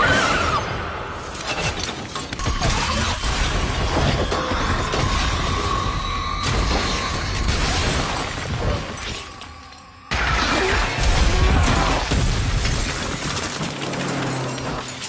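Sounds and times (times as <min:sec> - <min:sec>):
blasts with debris crashing: 0:01.4 - 0:09.4, 0:10.1 - 0:15.0.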